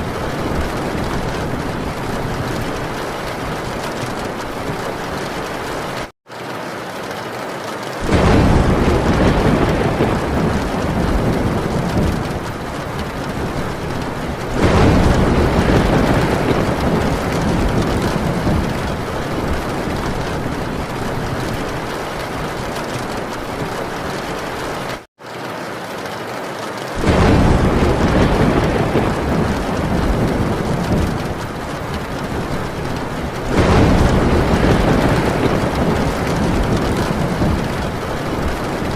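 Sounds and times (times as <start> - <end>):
thunder rumbling: 0.0 - 6.1, 8.0 - 25.0, 27.0 - 38.9
heavy rain on a tin roof: 0.0 - 38.9.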